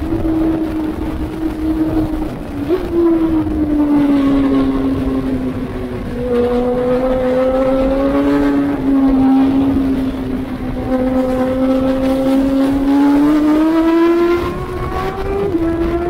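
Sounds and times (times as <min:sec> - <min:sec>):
motorcycle engine at high revs: 0:00.0 - 0:16.0
wind rush: 0:00.0 - 0:16.0.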